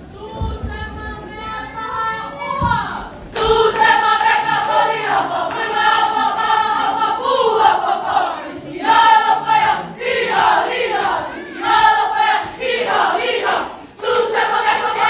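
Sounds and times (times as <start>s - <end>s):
group of young voices singing: 0.1s - 15.0s.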